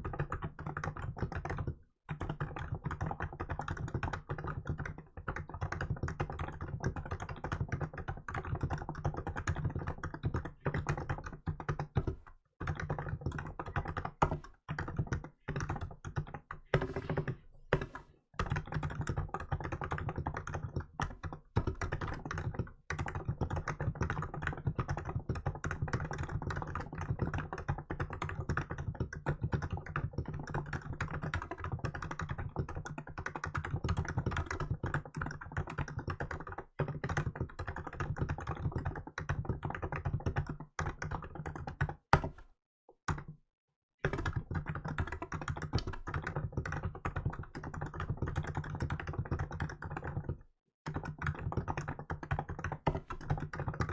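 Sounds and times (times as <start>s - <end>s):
fast keyboard typing: 0.0s - 42.5s, 43.1s - 43.4s, 44.0s - 53.9s.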